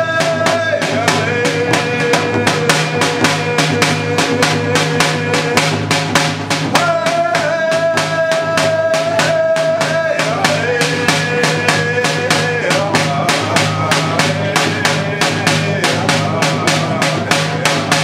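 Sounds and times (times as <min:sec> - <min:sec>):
group singing in unison: 0:00.0 - 0:18.0
hand drums beating: 0:00.0 - 0:18.0.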